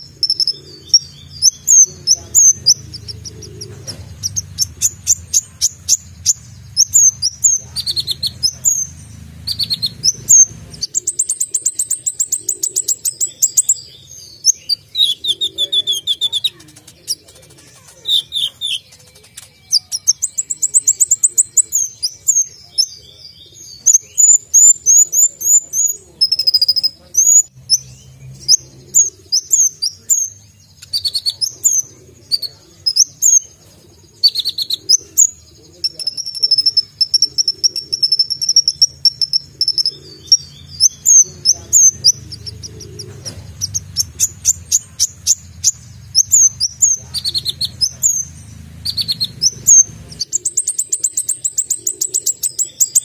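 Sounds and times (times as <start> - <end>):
bird singing chirps and trills: 0.0 - 53.0.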